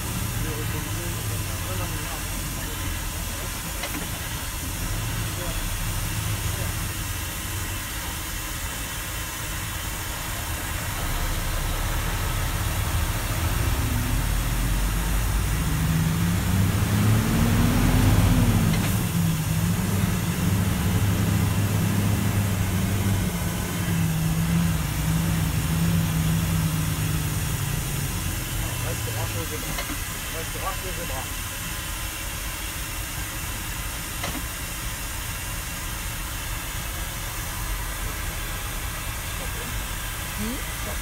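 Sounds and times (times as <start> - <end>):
diesel truck engine: 0.0 - 41.0.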